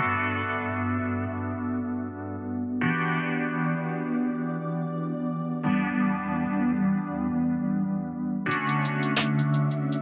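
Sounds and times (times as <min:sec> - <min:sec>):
background music with layered chords: 0:00.0 - 0:10.0.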